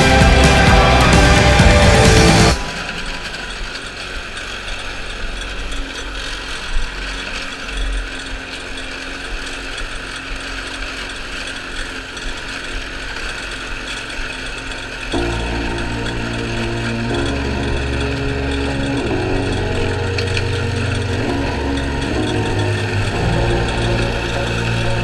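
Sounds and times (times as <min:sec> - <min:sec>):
lawn mower engine mowing grass: 0:00.0 - 0:25.0.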